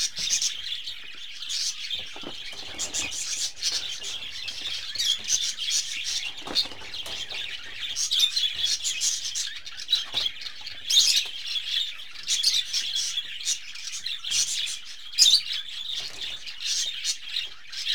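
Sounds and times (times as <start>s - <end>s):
budgerigars chirping and chattering: 0.0s - 17.9s.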